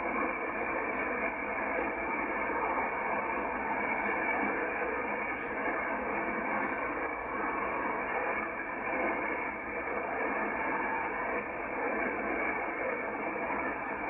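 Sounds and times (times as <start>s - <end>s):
radio band hiss: 0.0s - 14.0s
weak radio teletype signal: 0.0s - 14.0s.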